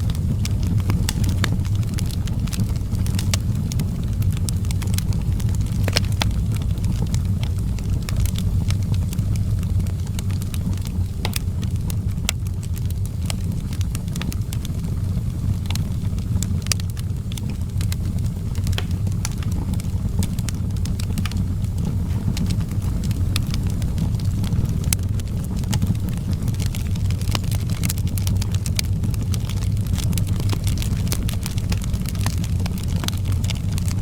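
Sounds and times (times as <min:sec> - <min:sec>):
low fire rumble: 0:00.0 - 0:34.0
wood fire crackling and popping: 0:00.0 - 0:34.0.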